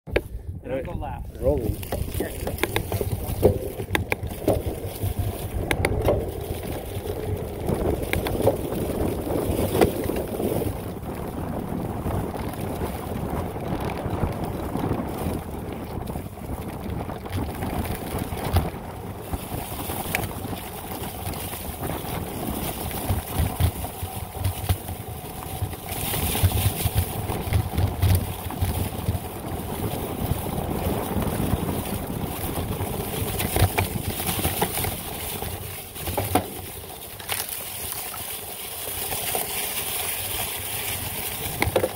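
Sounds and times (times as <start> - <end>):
wind rushing over microphone: 0.1 - 37.6, 38.2 - 41.9
tyres rolling over leaves and dirt: 0.9 - 41.9
bike clattering over bumps: 1.4 - 41.9.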